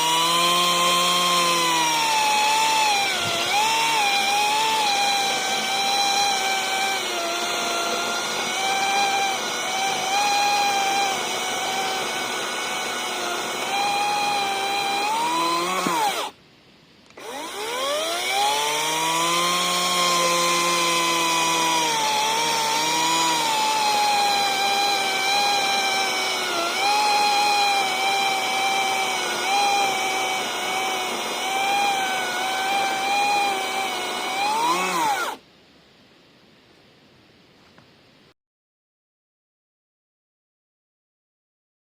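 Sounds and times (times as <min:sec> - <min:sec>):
electric chainsaw whining: 0:00.0 - 0:16.4, 0:17.1 - 0:35.4.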